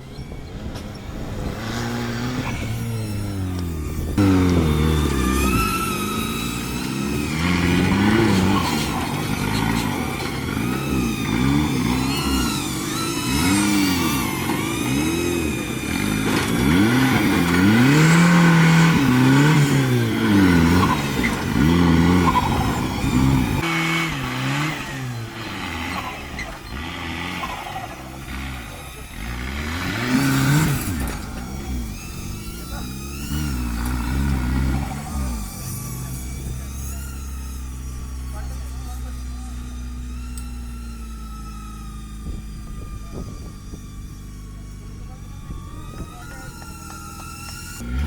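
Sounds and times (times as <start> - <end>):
off-road vehicle engine revving: 0.0 - 48.0.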